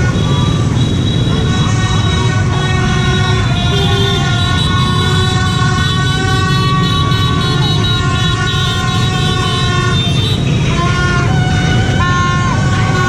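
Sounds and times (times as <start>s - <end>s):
motorbike convoy rumble: 0.0s - 13.0s
vehicle horns honking: 0.0s - 13.0s.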